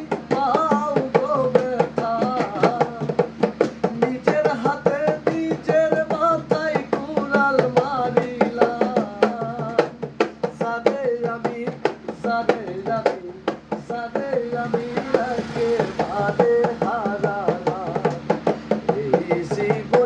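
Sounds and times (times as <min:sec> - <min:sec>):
quick hand-drum beat: 0:00.0 - 0:20.0.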